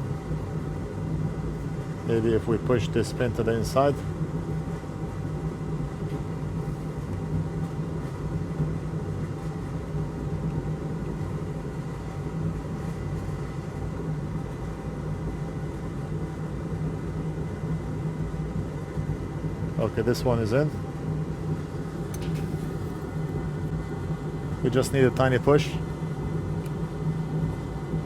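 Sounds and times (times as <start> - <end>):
fan motor humming: 0.0 - 28.0.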